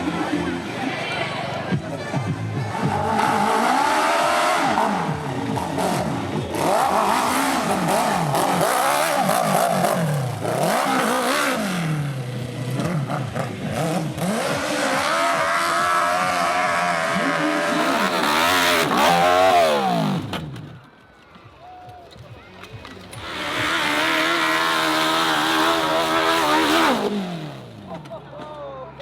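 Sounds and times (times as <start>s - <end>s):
motocross bike engines revving: 0.0s - 20.9s, 22.4s - 28.5s.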